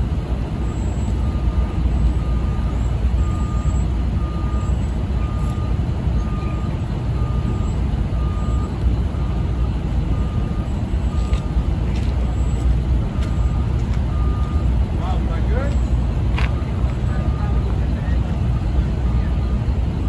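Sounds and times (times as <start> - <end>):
truck engine rumble: 0.0 - 20.0
truck reversing alarm beeping: 0.1 - 20.0.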